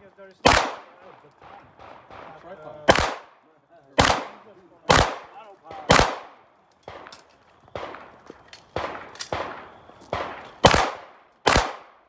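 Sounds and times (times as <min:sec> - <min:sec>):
pistol shots: 0:00.4 - 0:03.4, 0:04.0 - 0:12.0.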